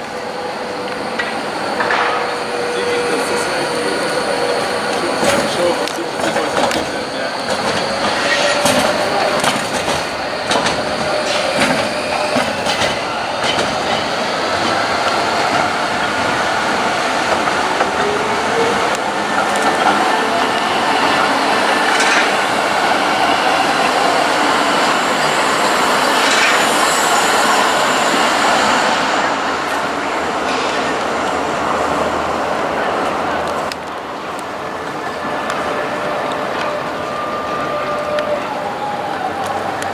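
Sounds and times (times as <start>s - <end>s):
tram running on rails: 0.0s - 39.9s.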